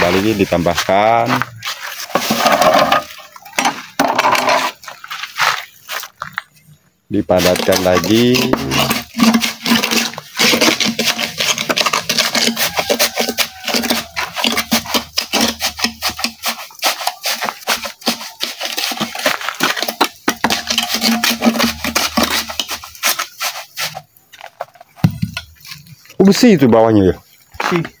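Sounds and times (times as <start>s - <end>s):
tamping rod knocking in concrete: 0.0s - 5.0s, 7.3s - 24.0s, 24.9s - 25.9s.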